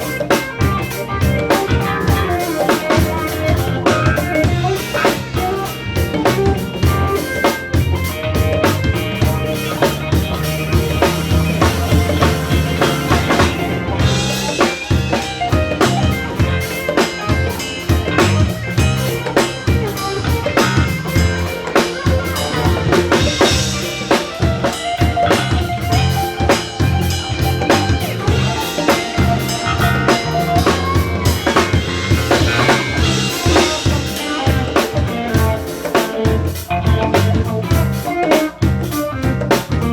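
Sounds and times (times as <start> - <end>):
drum kit groove: 0.0 - 39.9
live band playing: 0.0 - 39.9.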